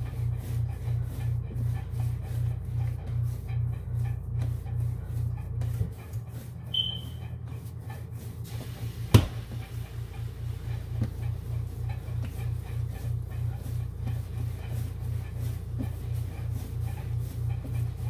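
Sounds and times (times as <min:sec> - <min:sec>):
dough kneaded by hand: 0:00.0 - 0:18.0.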